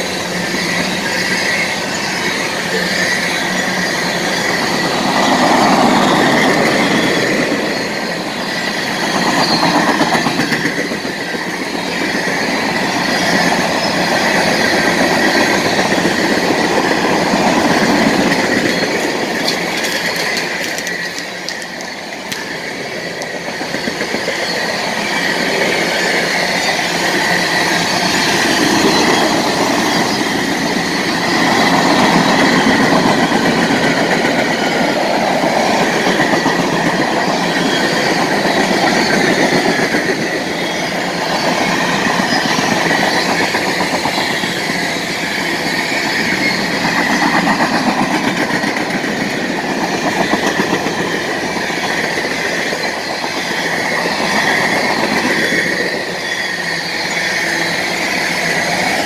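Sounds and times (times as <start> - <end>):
high-pitched whine: 0.0 - 59.0
train wheels rumbling on rails: 0.0 - 59.0.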